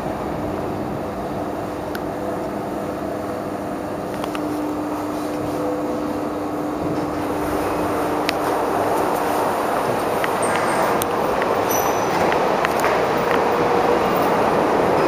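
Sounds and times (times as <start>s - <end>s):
elevator hum and whir: 0.0s - 15.0s.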